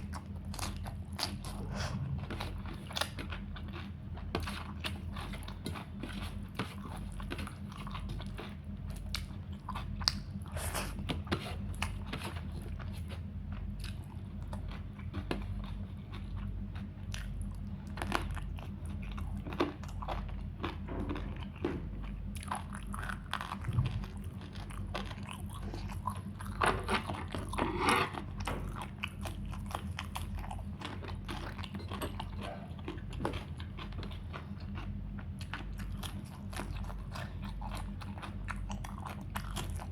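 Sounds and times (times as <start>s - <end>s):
low hum: 0.0s - 39.9s
person chewing and crunching food: 0.0s - 39.9s.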